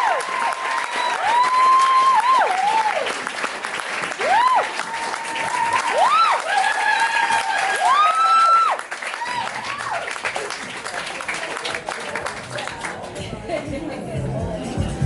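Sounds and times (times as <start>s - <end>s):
audience applauding and cheering: 0.0s - 13.4s.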